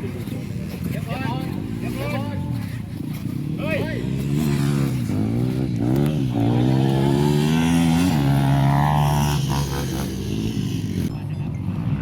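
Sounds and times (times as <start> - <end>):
motocross bike engine revving: 0.2 - 11.1.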